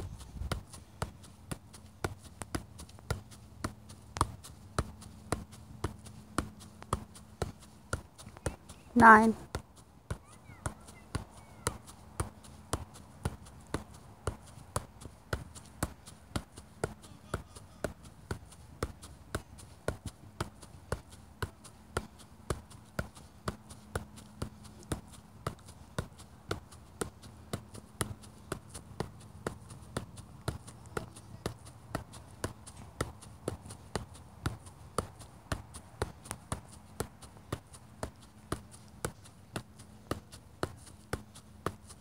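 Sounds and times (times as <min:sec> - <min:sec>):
soccer ball taps: 0:00.0 - 0:42.0.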